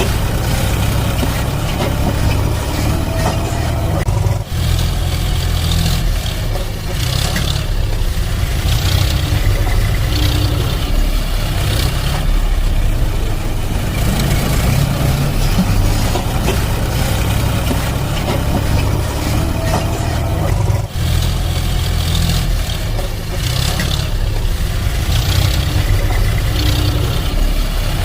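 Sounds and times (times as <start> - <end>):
tractor engine rumbling: 0.0 - 28.0.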